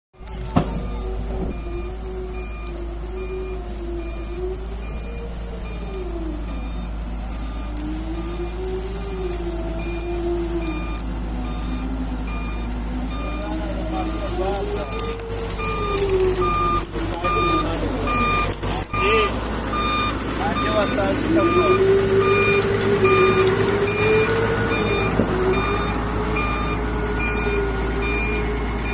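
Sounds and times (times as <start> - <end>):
excavator diesel engine: 0.1 - 28.9
backup alarm beeping: 0.2 - 28.9.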